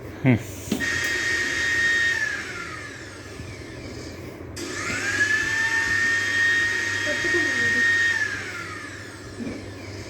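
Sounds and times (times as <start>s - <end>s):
mixer grinder motor whine: 0.6s - 10.0s.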